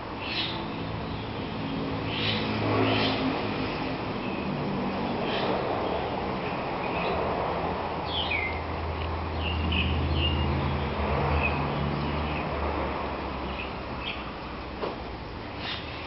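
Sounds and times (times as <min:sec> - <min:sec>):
small birds chirping: 0:00.2 - 0:07.3, 0:08.0 - 0:12.7, 0:13.4 - 0:14.6, 0:15.2 - 0:16.0.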